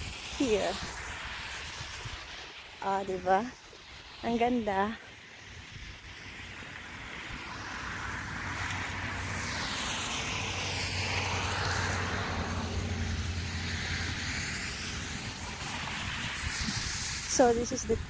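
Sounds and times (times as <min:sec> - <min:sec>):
aircraft passing overhead: 0:00.0 - 0:18.0.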